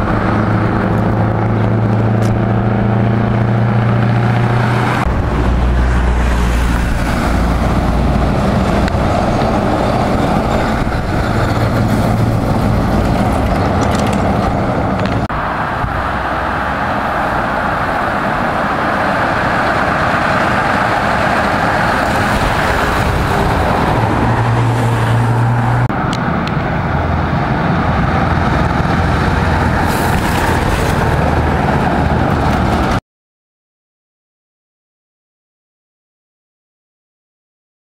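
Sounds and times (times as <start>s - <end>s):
trucks driving past: 0.0s - 33.0s.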